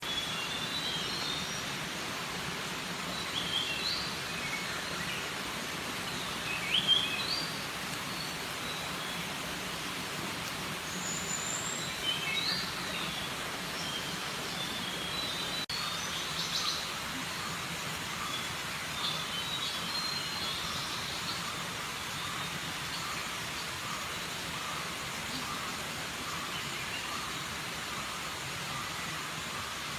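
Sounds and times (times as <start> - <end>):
steady background hiss: 0.0 - 29.9
birds chirping: 3.0 - 27.8.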